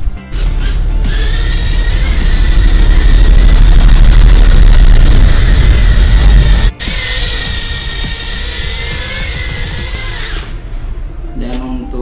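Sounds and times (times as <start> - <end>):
quadcopter motors whining: 0.4 - 10.6
loud low rumble: 1.0 - 11.2.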